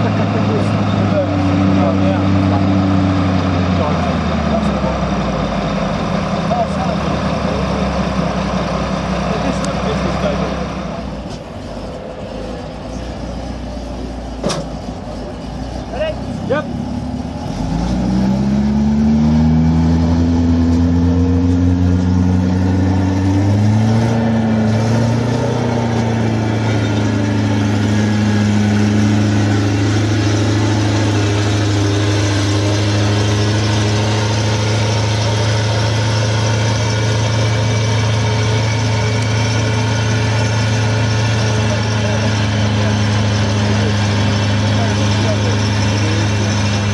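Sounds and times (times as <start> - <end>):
armoured car engine driving past: 0.0 - 46.9.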